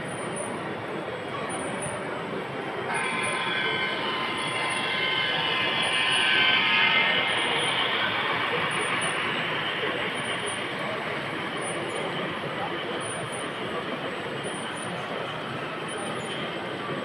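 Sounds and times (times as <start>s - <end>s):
model train whine: 0.0s - 17.0s.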